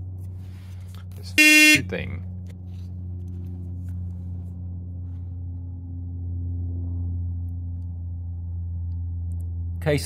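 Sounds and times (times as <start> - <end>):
low hum: 0.0 - 9.8.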